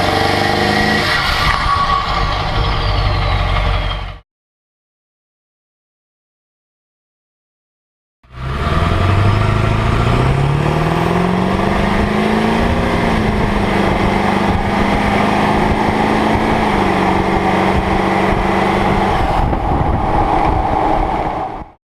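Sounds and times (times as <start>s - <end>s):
diesel engine accelerating: 0.0s - 4.2s, 8.3s - 21.8s.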